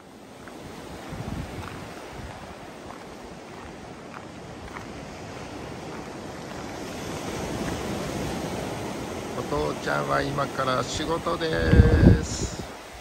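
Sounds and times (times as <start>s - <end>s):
waves washing onto rocky shore: 0.0s - 13.0s
wind buffeting microphone: 0.0s - 13.0s.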